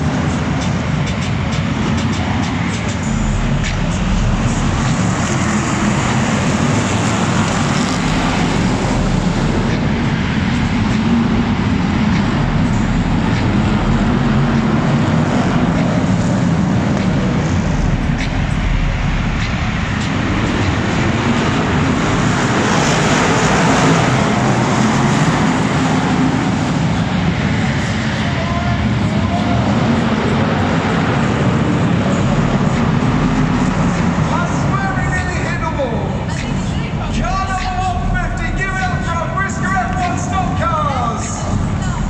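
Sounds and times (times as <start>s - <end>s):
racing car engines roaring: 0.0s - 42.0s.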